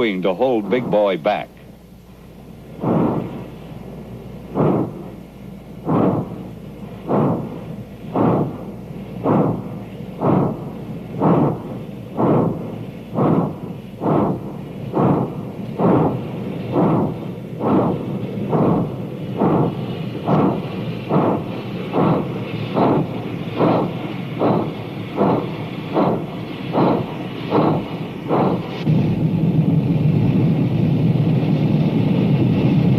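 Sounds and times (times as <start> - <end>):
steam locomotive exhaust chuffing: 0.0 - 32.9.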